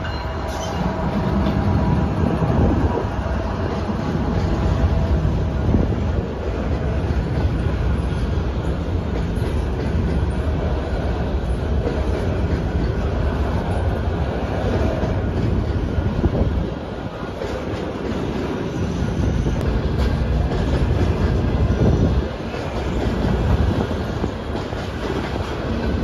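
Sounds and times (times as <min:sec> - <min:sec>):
freight train rolling past: 0:00.0 - 0:26.0
steel wheels clattering on rails: 0:00.0 - 0:26.0.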